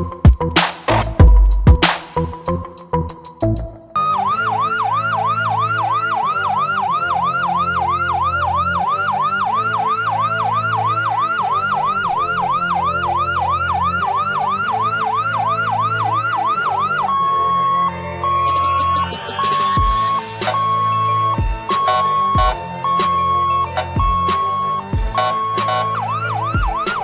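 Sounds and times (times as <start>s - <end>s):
low background music: 0.0s - 27.0s
ambulance siren yelp: 4.0s - 27.0s.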